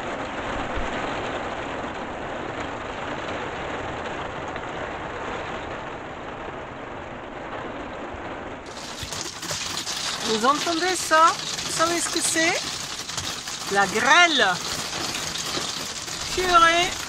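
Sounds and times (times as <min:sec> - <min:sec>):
heavy rain on windscreen: 0:00.0 - 0:17.0.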